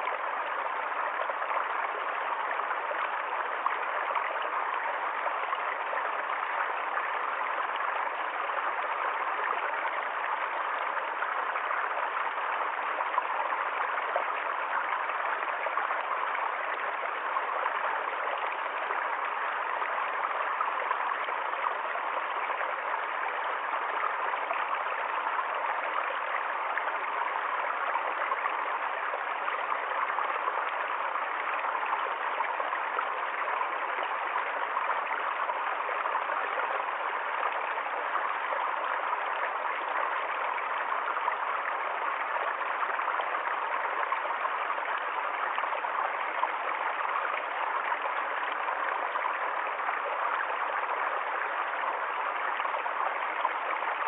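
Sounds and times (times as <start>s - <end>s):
stream water splashing over stones: 0.0s - 54.0s.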